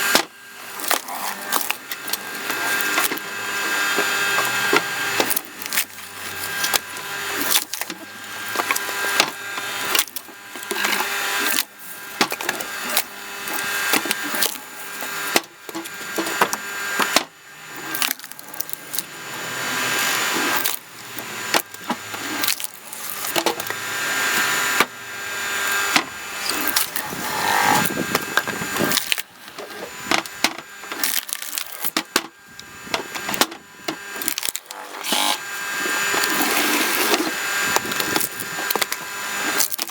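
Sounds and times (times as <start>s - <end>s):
log splitter: 0.0s - 39.9s
logs cracking and splintering: 0.0s - 39.9s.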